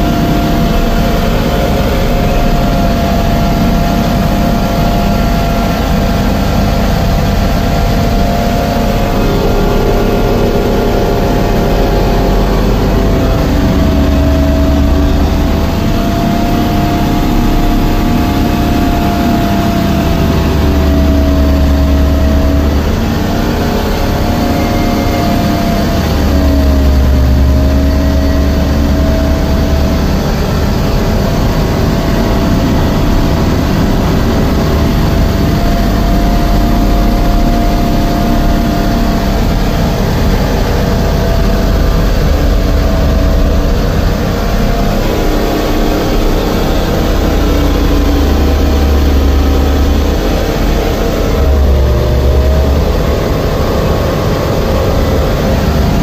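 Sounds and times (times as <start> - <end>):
diesel truck engine rumble: 0.0 - 56.0
road and cab noise: 0.0 - 56.0.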